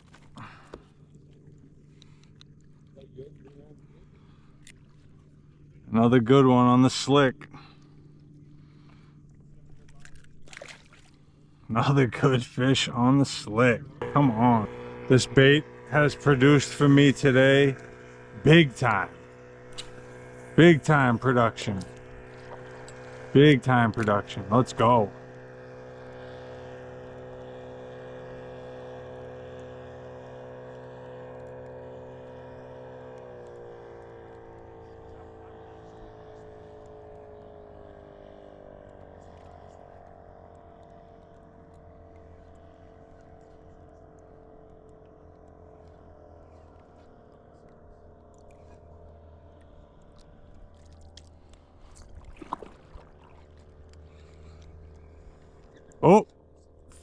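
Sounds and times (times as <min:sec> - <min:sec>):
motor droning: 0:00.0 - 0:57.0.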